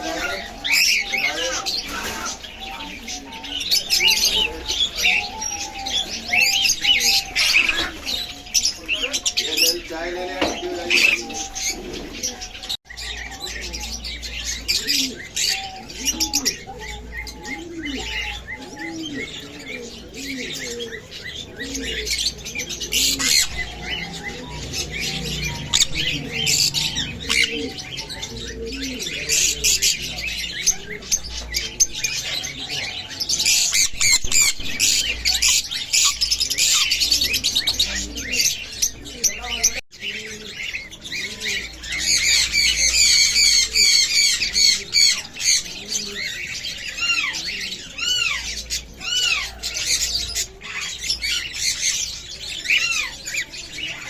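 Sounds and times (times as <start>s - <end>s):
small birds chirping and chattering: 0.0s - 54.0s.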